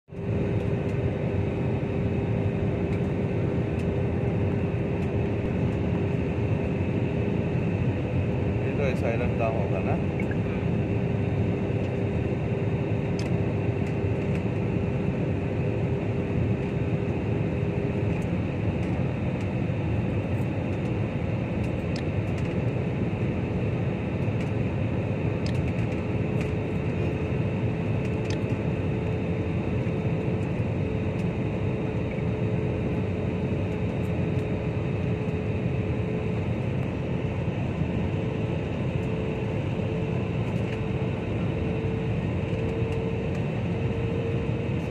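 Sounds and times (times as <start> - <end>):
airliner cabin engine rush: 0.1 - 44.9
steady cabin hum: 0.2 - 44.9.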